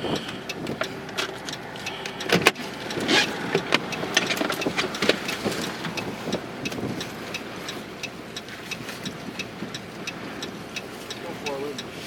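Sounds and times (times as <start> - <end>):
car running noise: 0.0 - 12.0
sharp ticks and knocks: 0.0 - 12.0.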